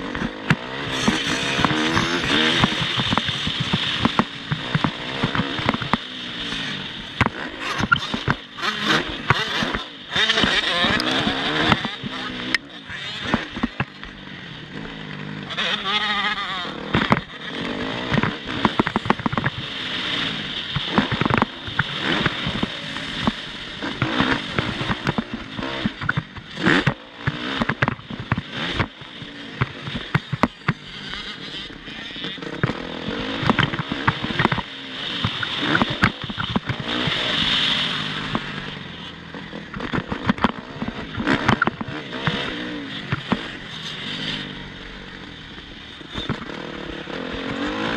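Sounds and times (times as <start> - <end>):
motocross motorcycle engine revving: 0.0 - 47.9.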